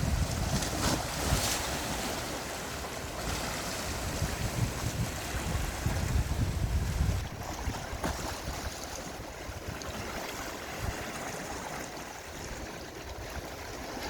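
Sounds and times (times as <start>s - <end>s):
wind buffeting microphone: 0.0s - 11.7s
sea waves washing in: 0.0s - 14.0s.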